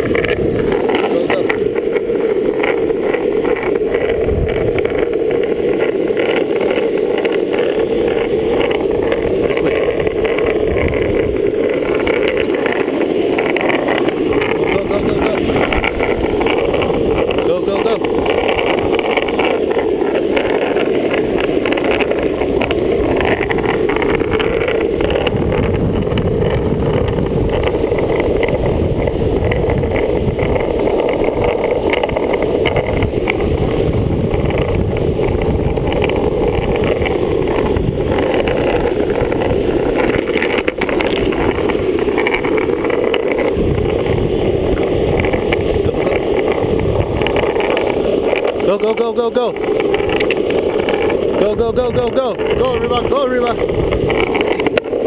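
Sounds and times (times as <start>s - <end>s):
longboard wheels rolling on asphalt: 0.0s - 55.0s.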